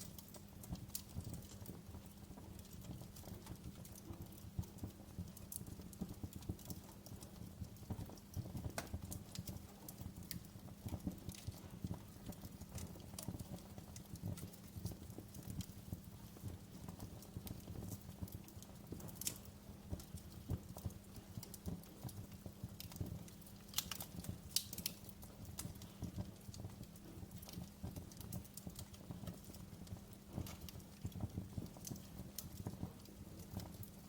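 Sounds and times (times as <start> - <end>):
low rumble of flame: 0.0 - 34.0
wood fire crackling and popping: 0.0 - 34.0.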